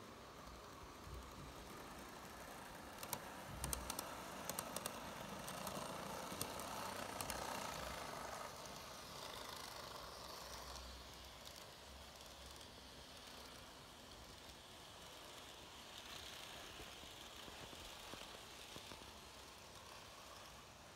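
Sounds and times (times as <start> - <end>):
model train rolling rattle: 0.0 - 20.9.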